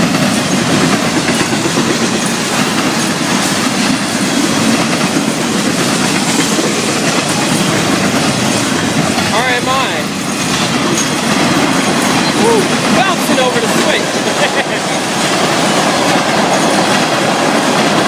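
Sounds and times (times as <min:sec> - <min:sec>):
freight cars rolling on rails: 0:00.0 - 0:18.0.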